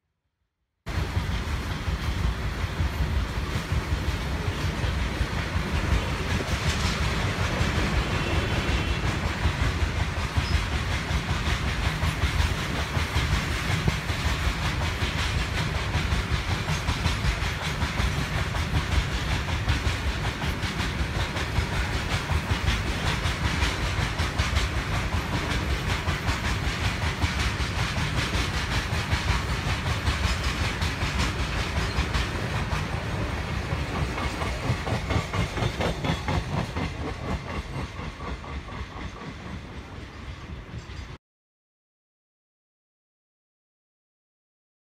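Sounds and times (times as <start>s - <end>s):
freight train rumble: 0.9s - 41.2s
train wheels clattering on rails: 0.9s - 41.2s.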